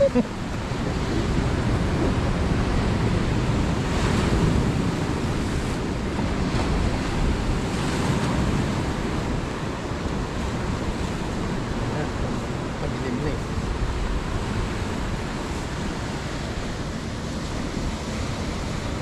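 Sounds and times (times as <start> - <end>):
surf washing over rocks: 0.0 - 19.0
wind buffeting microphone: 0.0 - 19.0.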